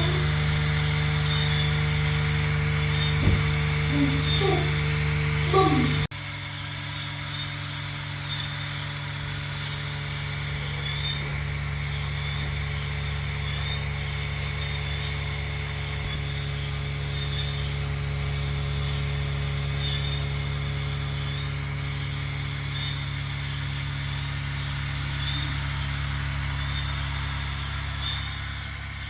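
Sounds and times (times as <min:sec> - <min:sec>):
small motor humming: 0:00.0 - 0:29.0.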